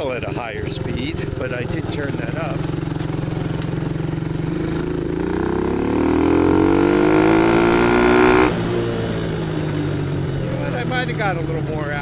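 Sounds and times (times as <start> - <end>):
atv engine accelerating: 0.0 - 12.0.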